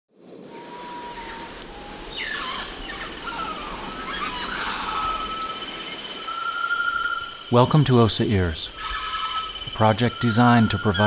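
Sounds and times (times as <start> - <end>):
high insect chorus: 0.1 - 11.0
bird calls and whistles: 0.8 - 7.5, 8.7 - 11.0.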